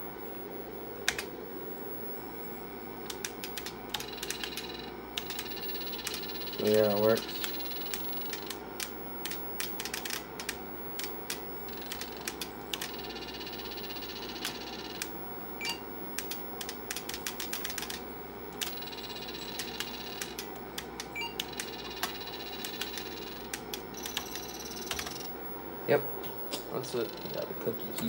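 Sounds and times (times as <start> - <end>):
steady background hum: 0.0 - 28.0
clicky keyboard typing: 1.0 - 1.3, 3.0 - 25.3.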